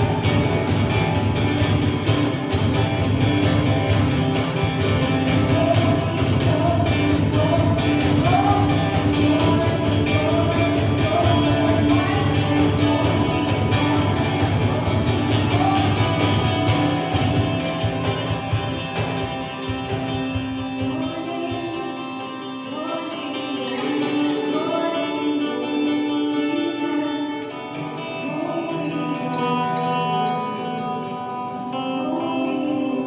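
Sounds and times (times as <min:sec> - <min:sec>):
person singing: 0:00.0 - 0:02.8, 0:04.4 - 0:33.0
guitar: 0:00.0 - 0:33.0.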